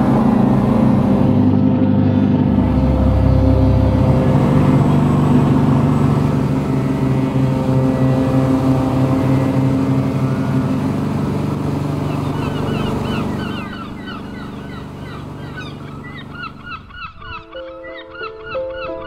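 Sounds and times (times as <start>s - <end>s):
water rushing in wake: 0.0s - 16.8s
ship engine drone: 0.0s - 17.4s.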